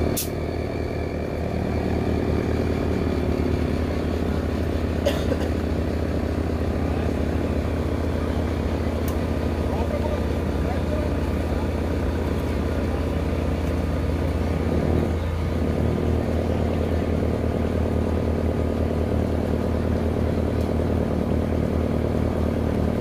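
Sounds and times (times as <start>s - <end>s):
truck engine running under load: 0.0s - 23.0s.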